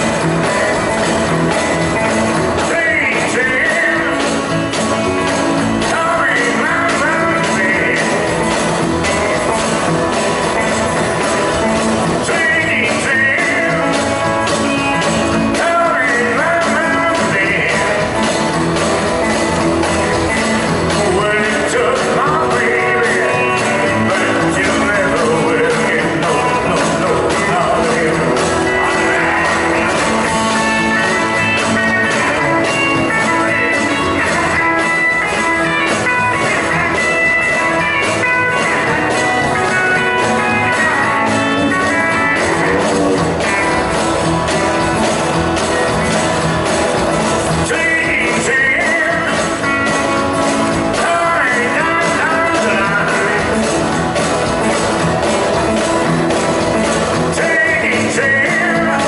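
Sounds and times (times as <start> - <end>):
drum beat: 0.0 - 59.0
electric guitar: 0.0 - 59.0
person singing: 0.0 - 59.0.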